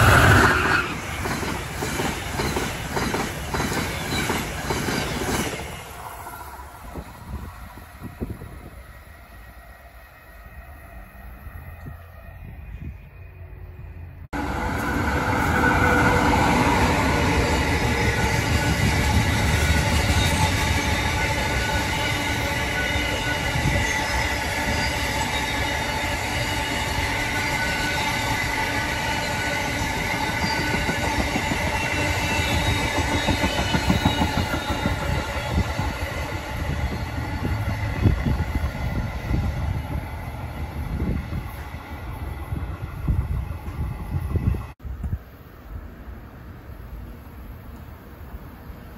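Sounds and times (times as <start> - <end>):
train wheels rumbling on rails: 0.0 - 9.1, 14.2 - 45.2
locomotive whining tones: 3.8 - 44.8.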